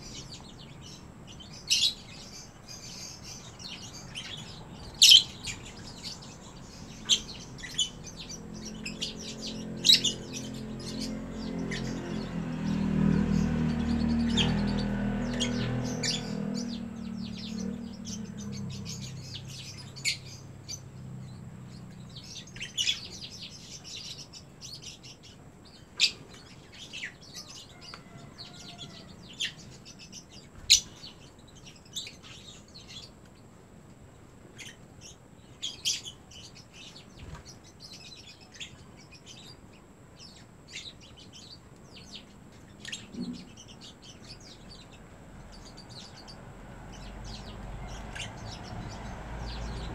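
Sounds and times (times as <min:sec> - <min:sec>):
lovebirds chirping: 0:00.0 - 0:49.9.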